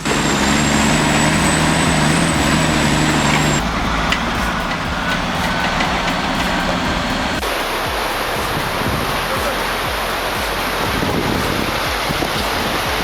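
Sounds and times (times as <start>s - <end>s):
steady high whine: 0.0s - 13.0s
truck engine running under load: 0.0s - 13.0s.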